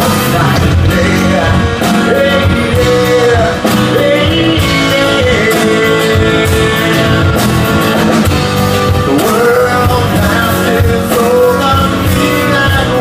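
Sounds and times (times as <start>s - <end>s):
guitar: 0.0s - 13.0s.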